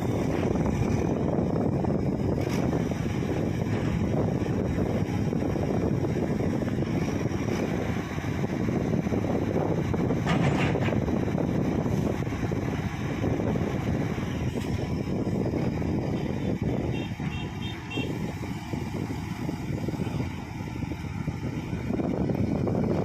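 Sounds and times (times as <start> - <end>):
heavy diesel engine running: 0.0 - 23.0
wind buffeting microphone: 0.0 - 23.0.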